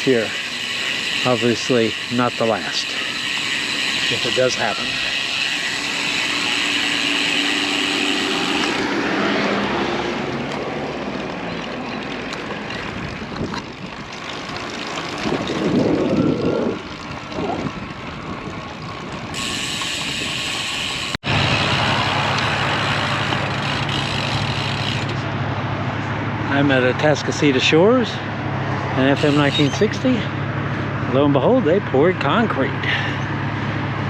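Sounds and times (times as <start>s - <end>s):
motor vehicles passing: 0.0s - 34.0s.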